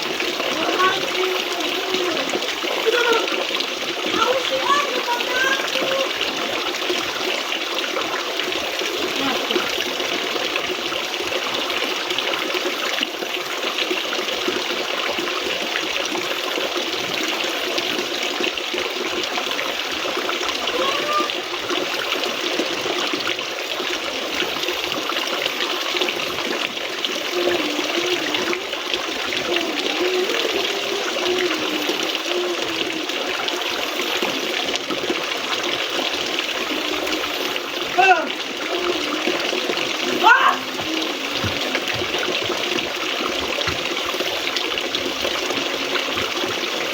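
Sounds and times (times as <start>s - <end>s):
flowing water rushing: 0.0s - 46.9s.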